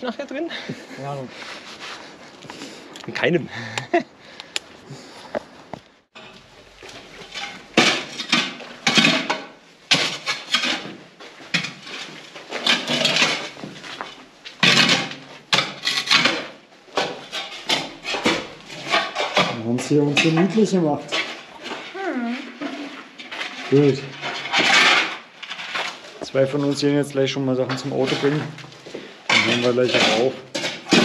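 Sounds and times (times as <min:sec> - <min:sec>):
rubble clattering and scraping: 0:04.9 - 0:31.0.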